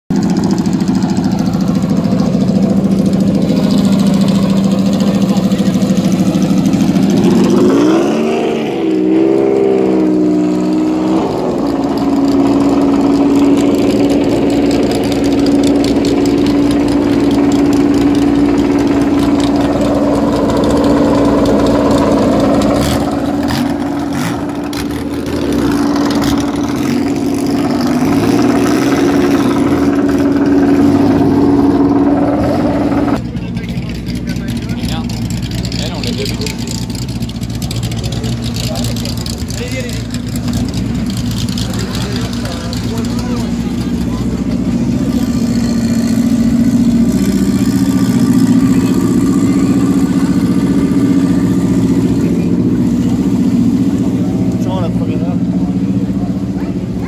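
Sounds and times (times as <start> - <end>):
car engines idling and revving: 0.1 - 57.0.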